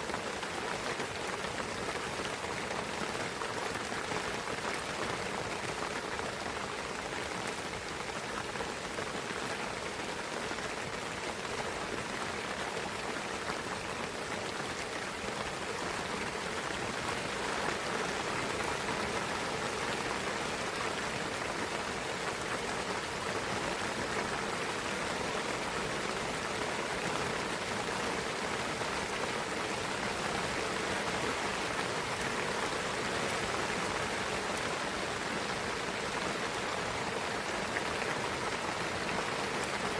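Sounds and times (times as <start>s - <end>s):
rain patter in forest: 0.0s - 39.9s.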